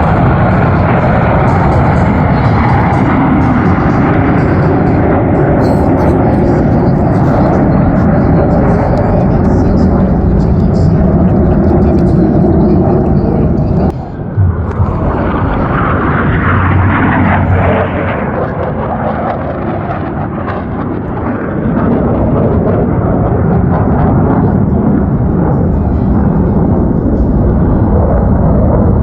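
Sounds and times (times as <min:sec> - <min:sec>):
jets flying low overhead: 0:00.0 - 0:29.0.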